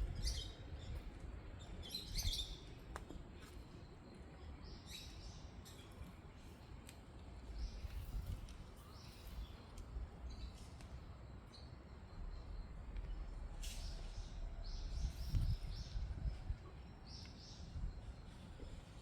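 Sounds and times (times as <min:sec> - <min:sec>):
steady low rumble: 0:00.0 - 0:05.2, 0:07.2 - 0:19.0
small birds chirping: 0:00.0 - 0:19.0.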